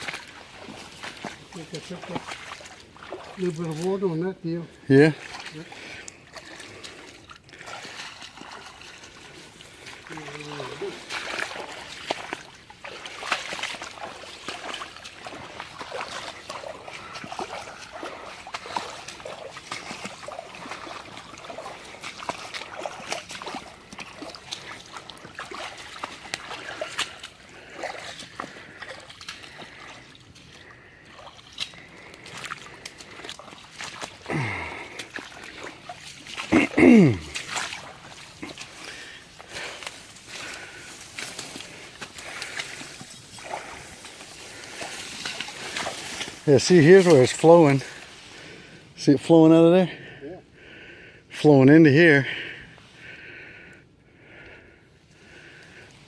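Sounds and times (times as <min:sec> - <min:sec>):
floodwater splashing and trickling: 0:00.0 - 0:56.0.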